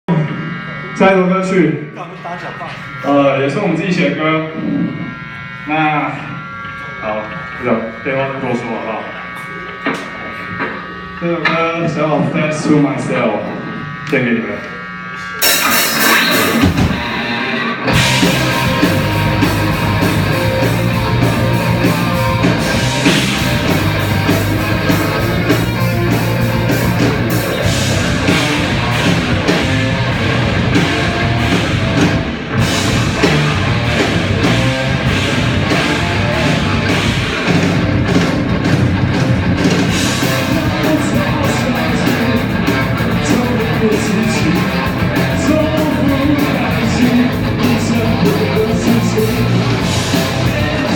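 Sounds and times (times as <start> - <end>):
rock band playing live: 9.1 - 50.9.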